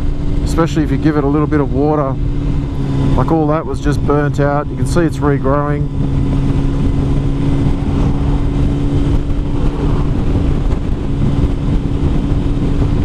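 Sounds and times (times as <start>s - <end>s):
motorcycle engine cruising: 0.0s - 13.0s
wind rumble on microphone: 0.0s - 13.0s.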